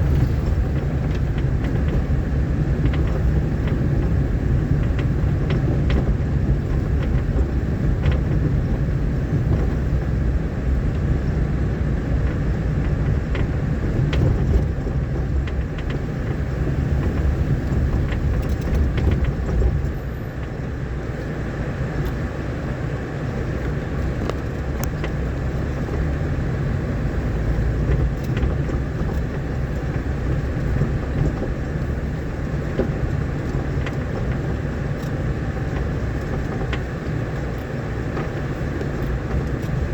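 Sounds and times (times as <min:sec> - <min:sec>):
small knocks and rattles: 0:00.0 - 0:21.2, 0:23.5 - 0:39.9
engine and road rumble: 0:00.0 - 0:39.9.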